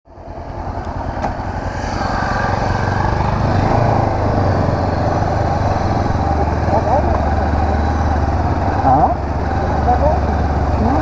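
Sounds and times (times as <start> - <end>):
motorcycle engine running: 0.1 - 11.0.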